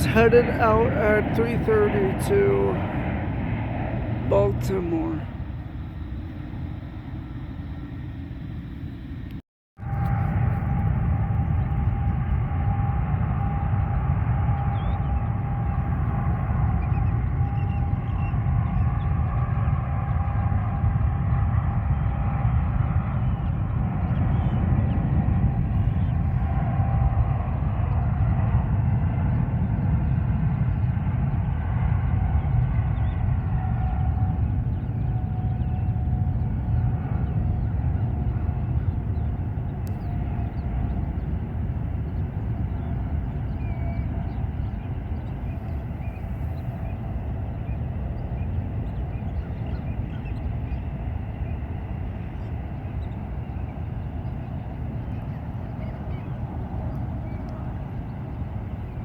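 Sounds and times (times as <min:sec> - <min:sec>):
engine whine dropping in pitch: 0:00.0 - 0:59.0
jet airliner engines running: 0:00.0 - 0:59.0.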